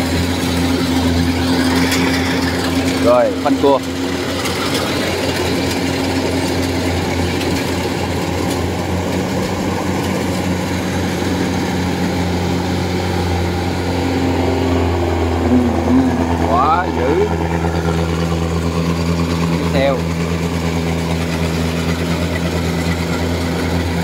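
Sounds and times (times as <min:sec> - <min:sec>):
combine harvester diesel drone: 0:00.0 - 0:24.0.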